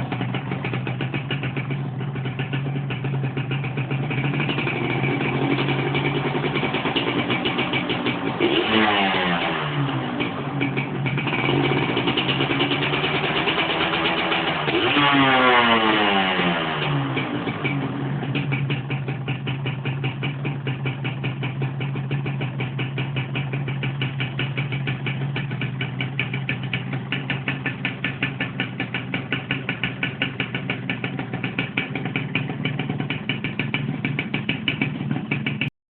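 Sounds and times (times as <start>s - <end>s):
motorcycle engine idling: 0.0s - 35.7s.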